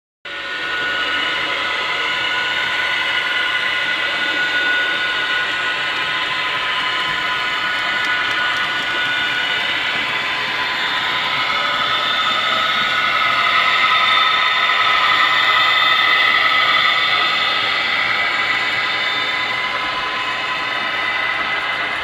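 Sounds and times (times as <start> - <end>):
high turbine whine: 0.3 - 22.0
model trains running on track: 0.3 - 22.0.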